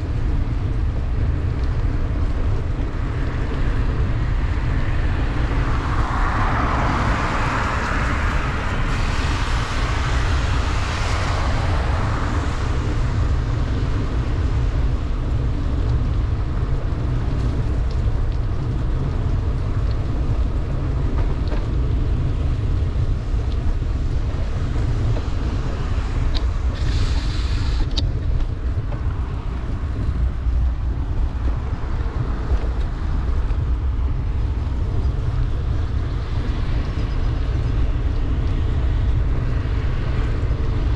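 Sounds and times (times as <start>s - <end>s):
heavy rain: 0.0s - 40.9s
wind rumbling on microphone: 0.0s - 40.9s
tyres hissing on wet road: 2.4s - 40.9s.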